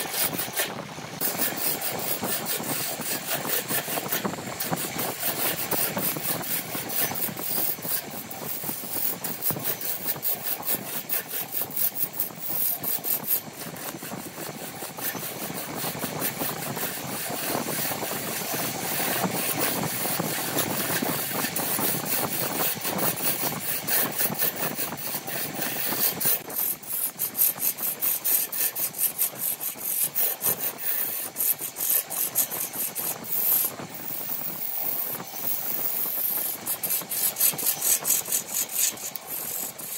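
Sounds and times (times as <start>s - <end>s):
gouge scraping wood on a lathe: 0.0s - 39.9s.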